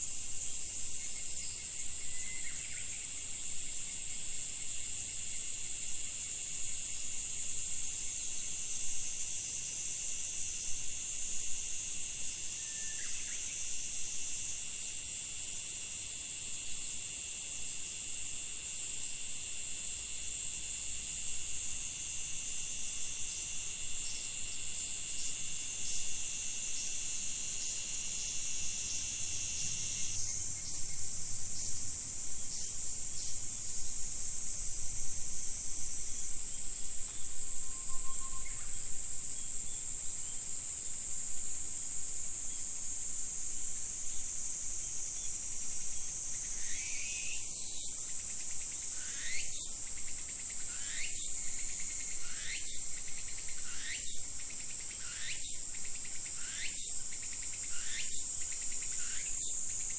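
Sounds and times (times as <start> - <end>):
insect chorus shrilling: 0.0 - 59.9.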